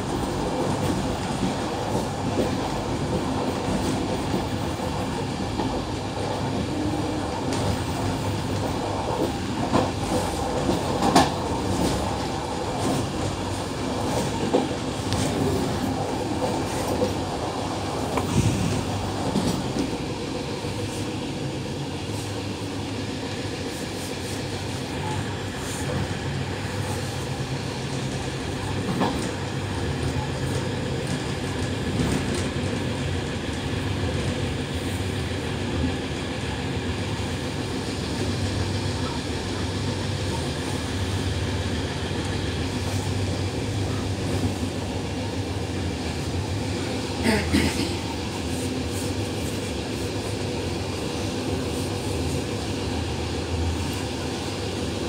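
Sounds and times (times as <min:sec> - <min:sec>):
train clattering: 0:00.0 - 0:55.0
train running noise with low hum: 0:00.0 - 0:55.0.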